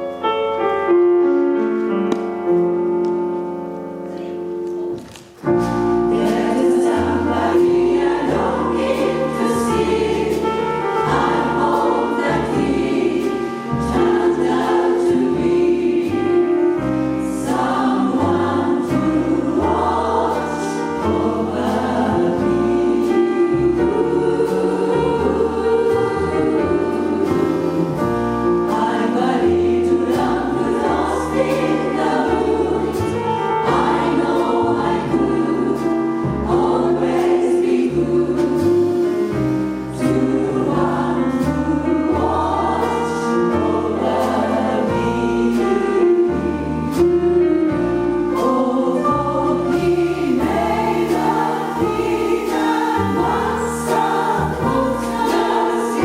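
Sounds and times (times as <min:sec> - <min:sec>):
jazz choir singing: 0:00.0 - 0:56.0
piano: 0:00.0 - 0:56.0.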